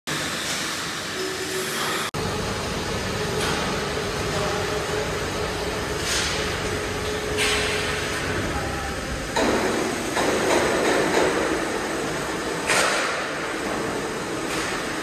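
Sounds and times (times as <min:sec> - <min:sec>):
machinery rumbling and hissing: 0:00.1 - 0:15.0.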